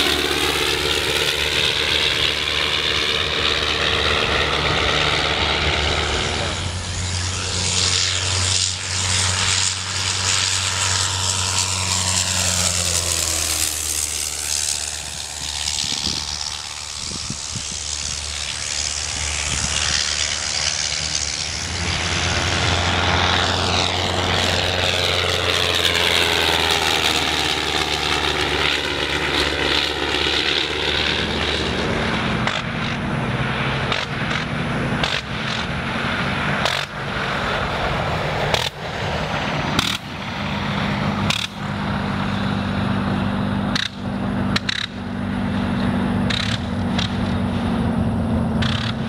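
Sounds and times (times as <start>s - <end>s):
biplane engine passing overhead: 0.0s - 49.0s.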